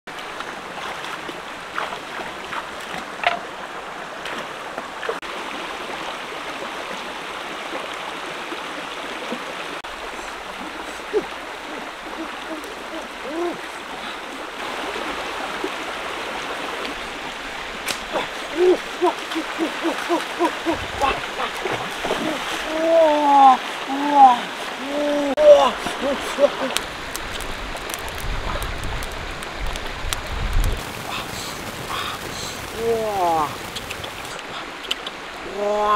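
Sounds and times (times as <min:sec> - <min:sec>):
stream running over rocks: 0:00.1 - 0:35.9.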